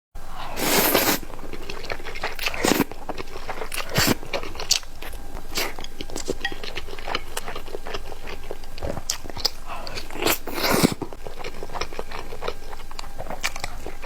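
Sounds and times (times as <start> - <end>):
crunching food: 0.3 - 14.0
soft chewing clicks: 0.9 - 14.0.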